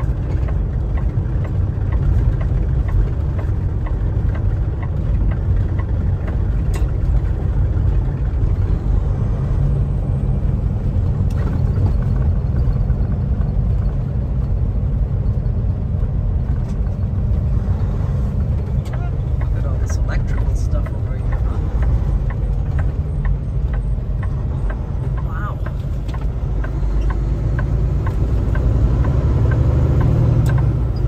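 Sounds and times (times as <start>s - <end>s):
truck engine and tyres rumbling: 0.0s - 31.0s.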